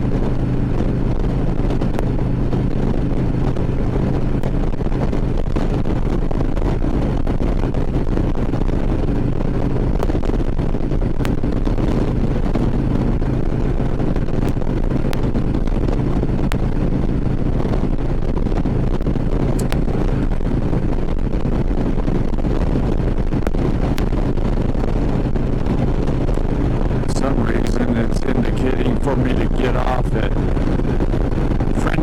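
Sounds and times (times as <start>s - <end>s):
motorcycle engine cruising: 0.0s - 32.0s
wind rushing over microphone: 0.0s - 32.0s.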